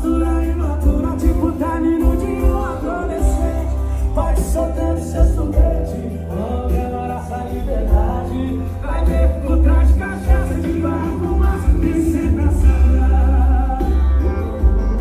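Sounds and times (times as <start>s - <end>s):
song with singing on car stereo: 0.0s - 14.6s
heavy subwoofer bass pulsing: 0.0s - 15.0s.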